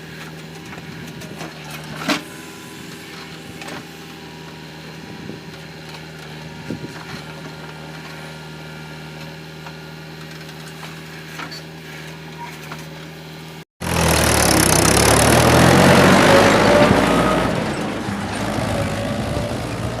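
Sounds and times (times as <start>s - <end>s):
diesel engine of heavy machinery: 0.0s - 20.0s.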